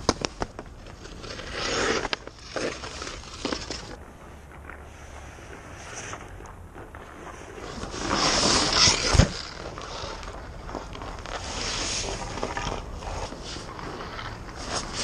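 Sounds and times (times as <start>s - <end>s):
skate blades scraping ice: 0.0s - 15.0s.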